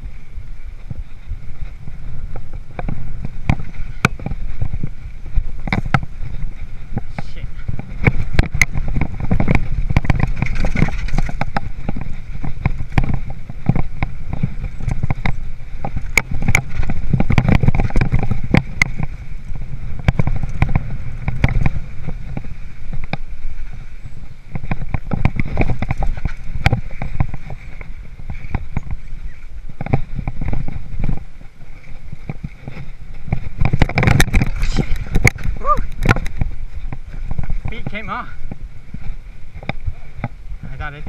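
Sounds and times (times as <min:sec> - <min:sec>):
bike clicks and rattles: 0:00.0 - 0:41.0
bike tyres rumbling on dirt: 0:00.0 - 0:41.0.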